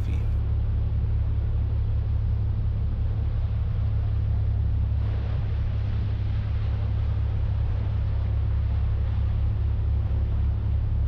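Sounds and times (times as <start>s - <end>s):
ferry engine rumbling: 0.0s - 11.0s.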